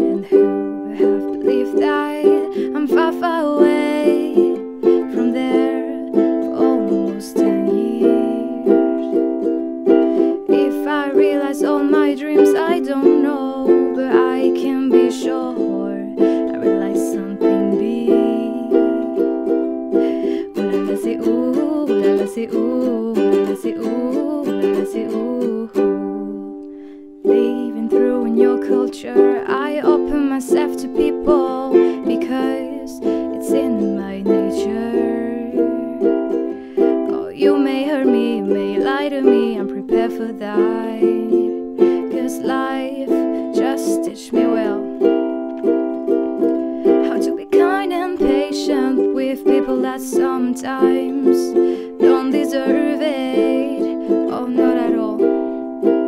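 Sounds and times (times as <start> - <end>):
ukulele strumming with melody: 0.0 - 56.0.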